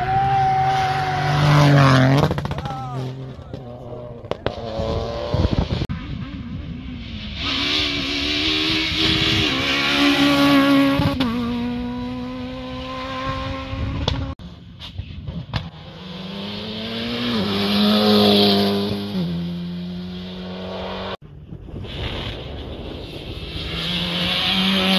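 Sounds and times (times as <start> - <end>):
rally cars revving past: 0.6 - 14.4, 15.7 - 21.2, 23.0 - 24.9.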